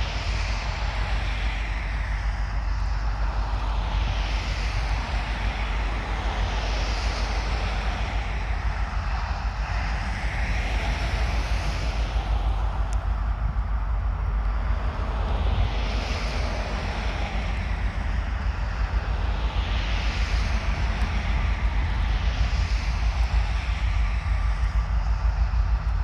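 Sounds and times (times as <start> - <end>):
diesel locomotive engine rumbling: 4.7 - 26.0.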